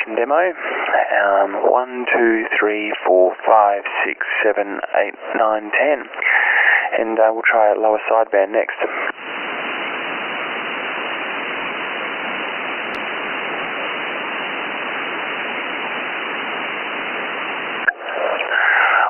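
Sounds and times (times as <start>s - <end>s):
radio receiver hiss: 0.0s - 19.0s.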